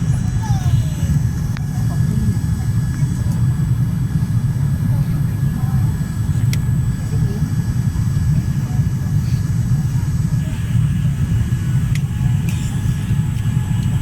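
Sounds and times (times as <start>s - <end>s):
airliner cabin engine rumble: 0.0s - 14.0s
faint high whine: 0.0s - 14.0s.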